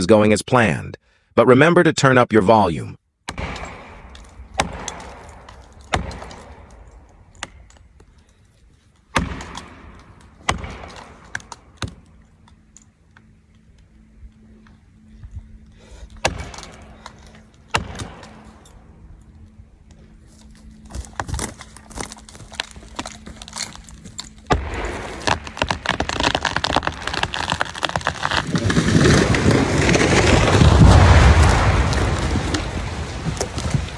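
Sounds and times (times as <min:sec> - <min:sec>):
tree cracking and splitting: 0:03.3 - 0:33.9
tree crashing down: 0:03.3 - 0:33.9.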